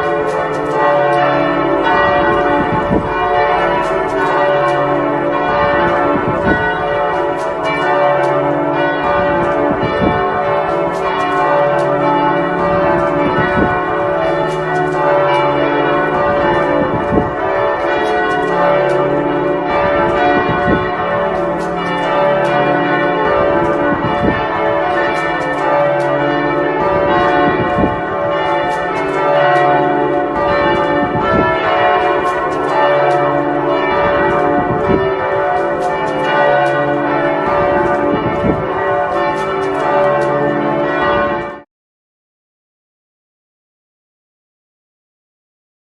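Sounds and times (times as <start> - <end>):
church bells ringing in a peal: 0.0 - 41.7.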